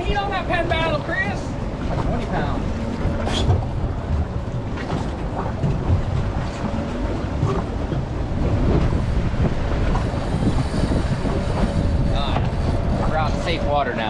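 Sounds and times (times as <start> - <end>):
waves: 0.0 - 14.0
wind buffeting microphone: 0.0 - 14.0.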